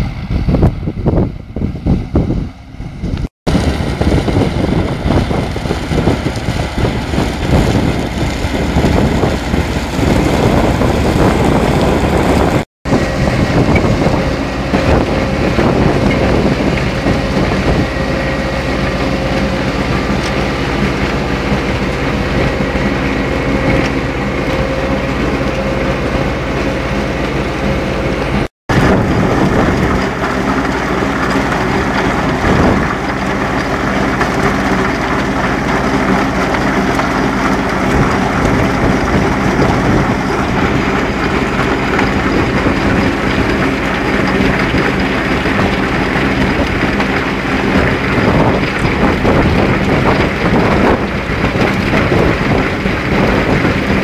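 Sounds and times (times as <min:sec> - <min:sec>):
tractor engine running: 0:00.0 - 0:54.0
harvester conveyors clattering: 0:03.5 - 0:54.0.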